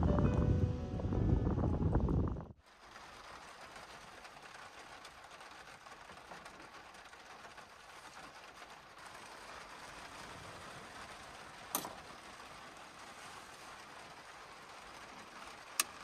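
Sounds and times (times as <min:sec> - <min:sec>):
steady rushing noise in van: 0:00.0 - 0:16.0.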